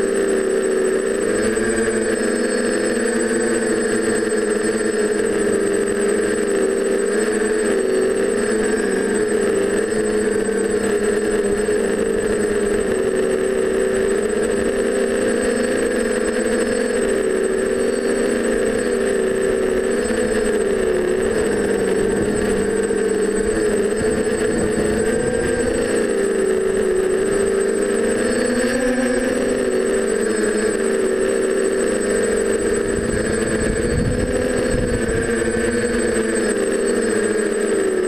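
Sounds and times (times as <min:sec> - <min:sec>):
quadcopter motors buzzing: 0:00.0 - 0:38.0.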